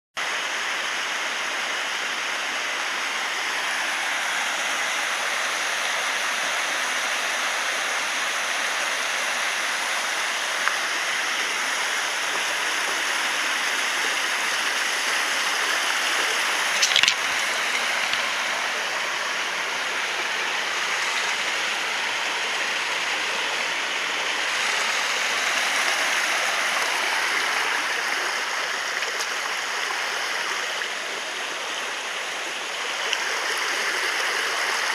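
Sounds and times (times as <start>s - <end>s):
waterfall rushing: 0.4s - 31.3s.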